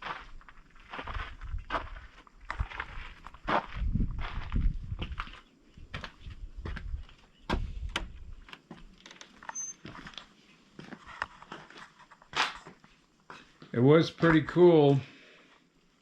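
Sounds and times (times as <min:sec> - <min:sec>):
footsteps: 0:00.0 - 0:15.6.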